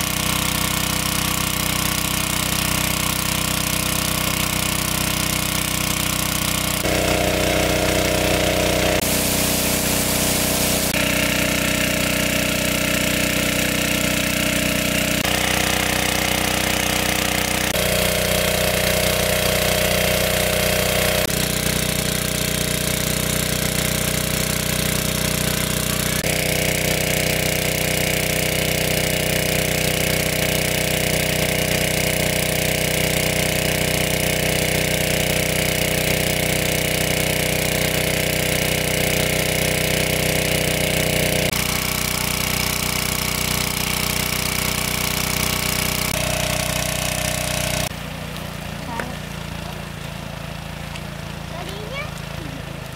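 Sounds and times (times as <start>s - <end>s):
portable water pump engine: 0.0s - 52.9s.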